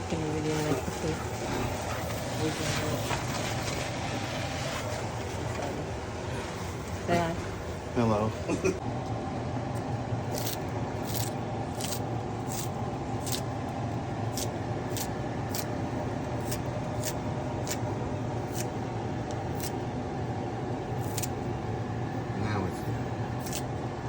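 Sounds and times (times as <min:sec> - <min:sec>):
deep fryer hissing: 0:00.0 - 0:24.0.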